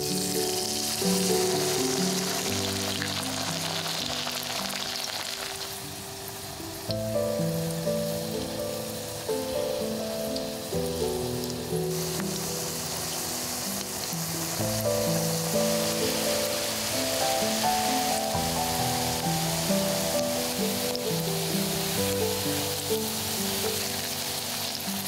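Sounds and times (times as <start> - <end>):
potato sizzling in hot oil: 0.0 - 25.0
soft background music: 0.0 - 25.0.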